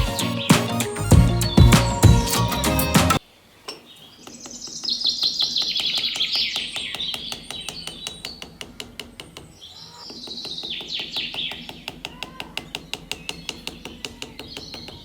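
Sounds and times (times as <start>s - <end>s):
birds chirping in trills: 0.0s - 15.0s.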